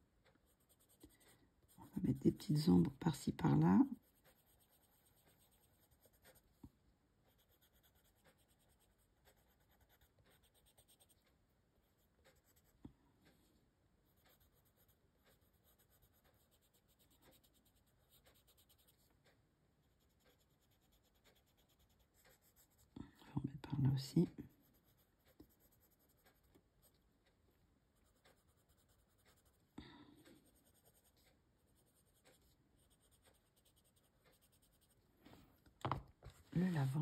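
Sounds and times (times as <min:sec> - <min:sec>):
pencil ticks: 0:00.0 - 0:35.1, 0:36.2 - 0:37.0
pencil scratching on paper: 0:00.4 - 0:06.6, 0:07.3 - 0:12.8, 0:14.0 - 0:19.1, 0:19.8 - 0:23.0, 0:23.6 - 0:27.0, 0:28.0 - 0:35.0, 0:36.2 - 0:37.0.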